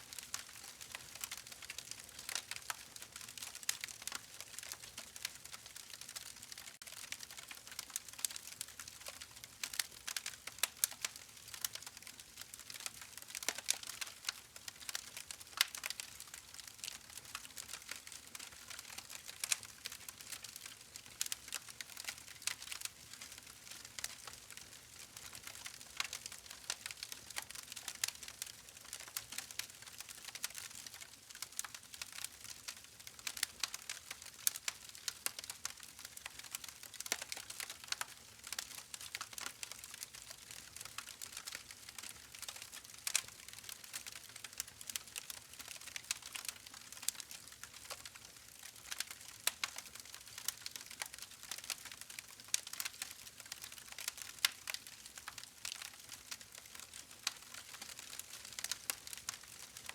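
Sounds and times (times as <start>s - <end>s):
burning wood crackling and popping: 0.1s - 59.9s.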